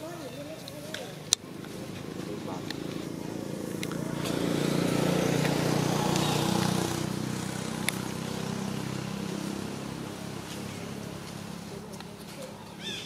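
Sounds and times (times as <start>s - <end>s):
vehicle engine running: 1.1s - 13.0s.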